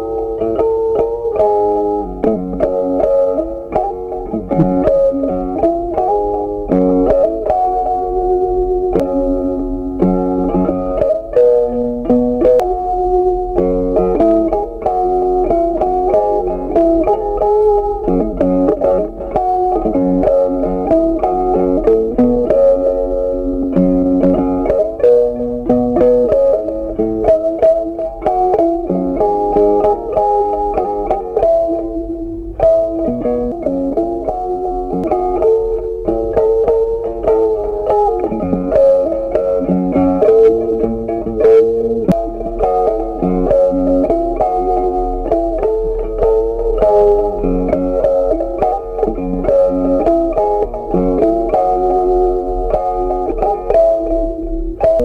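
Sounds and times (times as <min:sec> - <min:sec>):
plucked guitar tune: 0:00.0 - 0:55.0
bass notes: 0:02.1 - 0:17.0, 0:19.9 - 0:55.0.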